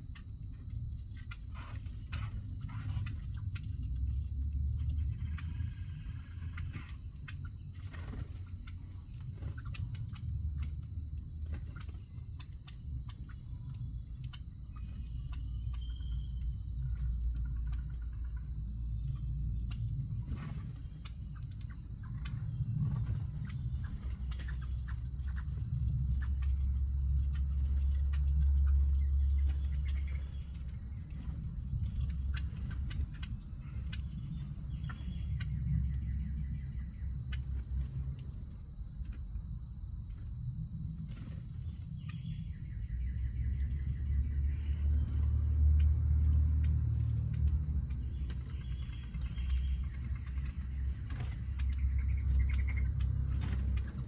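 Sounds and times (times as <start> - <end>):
small birds chirping: 0.0 - 54.0
wind rumble on microphone: 0.0 - 54.0.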